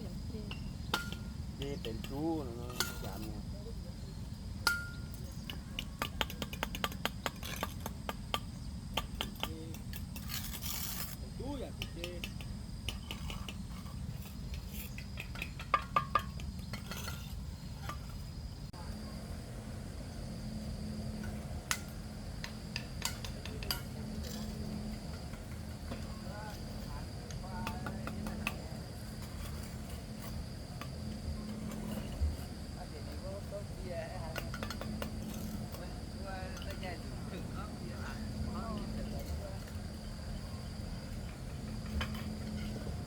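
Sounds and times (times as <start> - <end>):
high insect-like whine: 0.0 - 43.0
steady low hum: 0.0 - 43.0.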